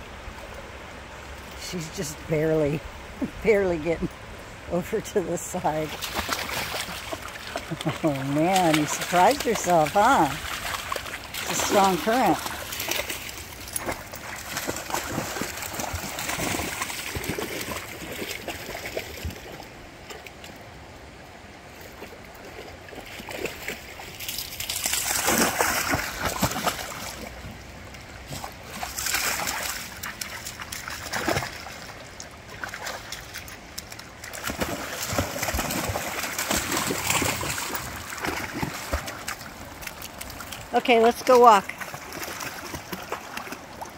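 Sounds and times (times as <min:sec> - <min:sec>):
creek water rushing: 0:00.0 - 0:43.9
dogs splashing in water: 0:04.9 - 0:20.3, 0:22.0 - 0:43.9.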